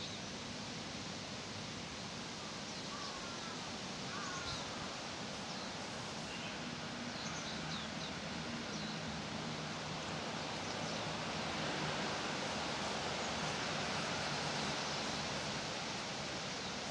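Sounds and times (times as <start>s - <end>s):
steady wide hiss: 0.0s - 16.9s.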